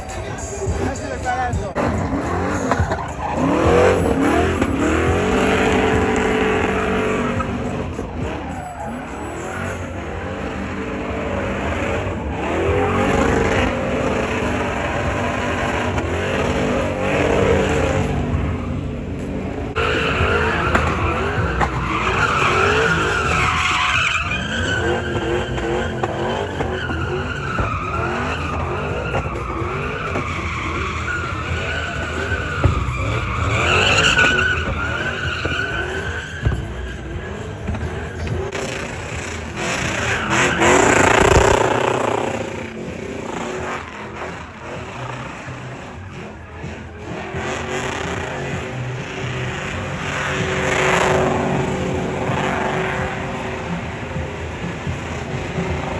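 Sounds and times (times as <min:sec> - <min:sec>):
tyre squeal: 0:00.0 - 0:53.6
car engine revving: 0:00.0 - 0:55.9.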